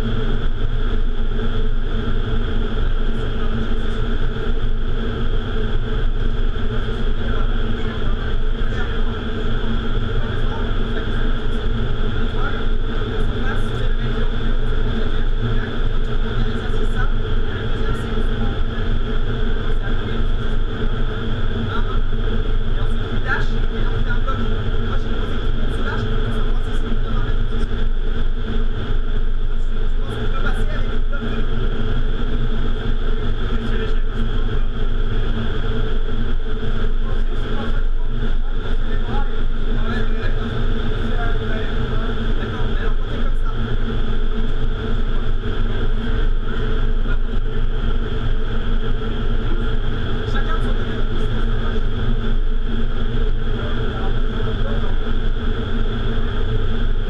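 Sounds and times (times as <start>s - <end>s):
fan hum: 0.0s - 57.0s.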